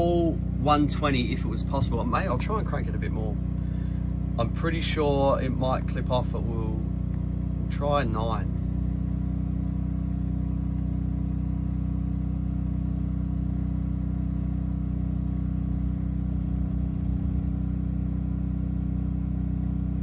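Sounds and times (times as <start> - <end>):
generator engine humming: 0.0 - 20.0.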